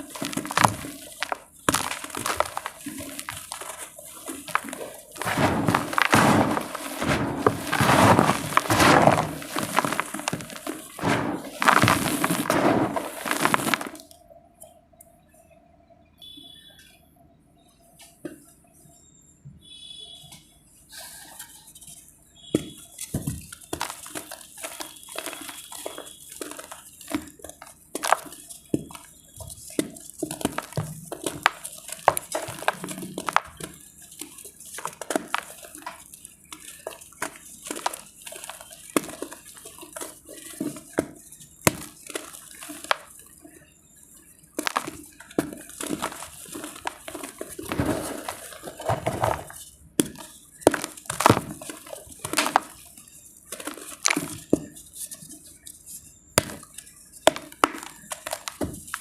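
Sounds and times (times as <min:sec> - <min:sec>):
dry clay crumbling and crunching: 0:00.0 - 0:14.2, 0:22.4 - 0:43.6, 0:44.2 - 0:59.0.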